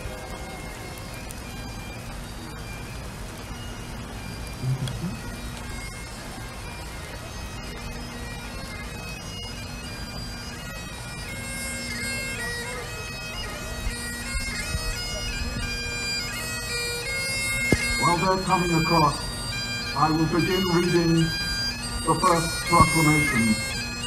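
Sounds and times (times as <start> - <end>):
bagpipe playing a tune: 0.0 - 24.0.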